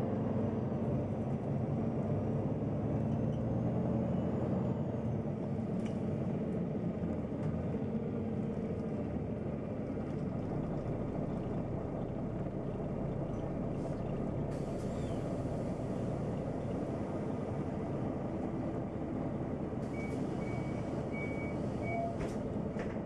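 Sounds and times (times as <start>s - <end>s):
bus engine low rumble: 0.0s - 23.0s.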